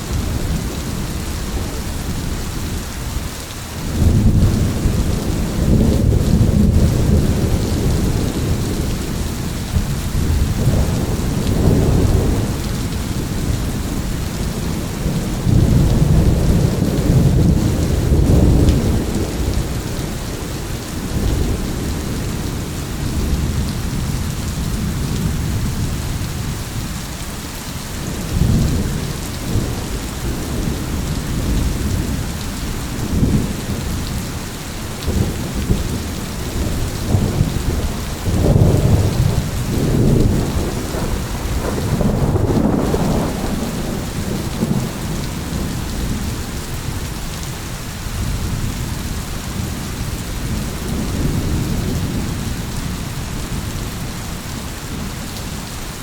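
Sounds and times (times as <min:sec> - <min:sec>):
heavy rain: 0:00.0 - 0:56.0
rolling thunder: 0:03.9 - 0:26.6, 0:28.0 - 0:47.4, 0:48.1 - 0:55.2.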